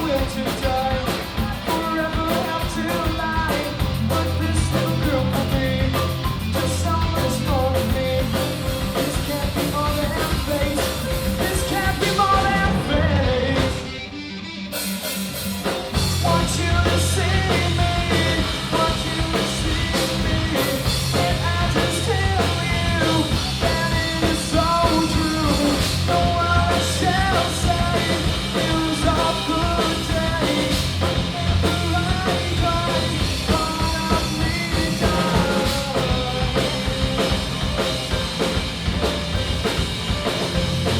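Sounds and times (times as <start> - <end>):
person singing: 0.0 - 14.7, 15.6 - 40.9
rock band playing: 0.0 - 40.9.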